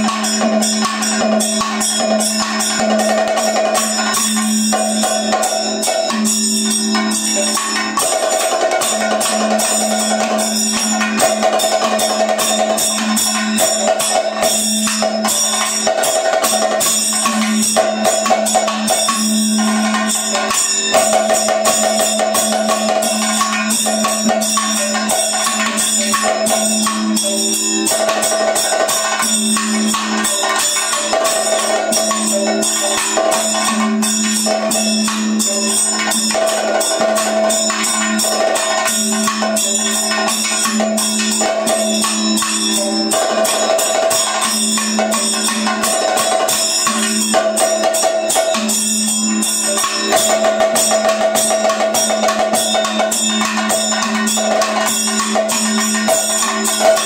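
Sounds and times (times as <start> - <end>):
drums in rapid strokes: 0.0 - 57.0.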